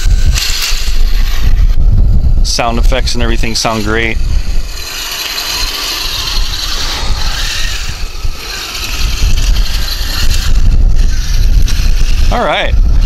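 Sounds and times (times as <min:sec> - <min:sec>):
toy tank gears whirring: 0:00.0 - 0:01.8, 0:02.5 - 0:13.0.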